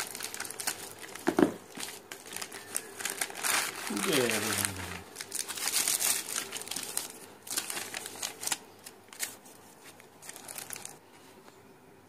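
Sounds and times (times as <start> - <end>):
plastic mailer and paper rustling: 0.0 - 11.0.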